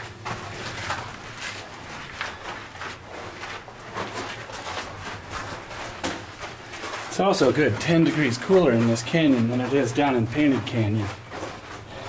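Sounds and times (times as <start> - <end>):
scuffs on rock: 0.2 - 12.0.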